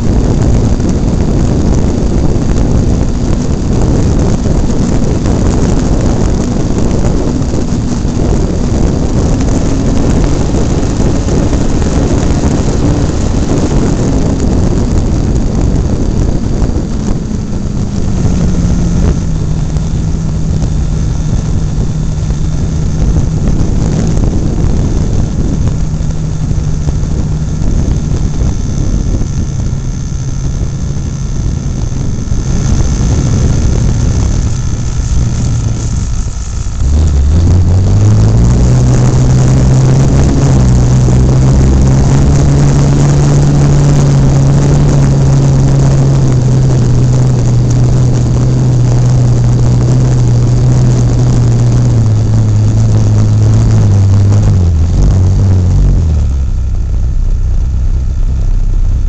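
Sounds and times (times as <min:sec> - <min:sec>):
air rushing over microphone: 0:00.0 - 0:59.0
model airplane motor and propeller: 0:00.0 - 0:59.0.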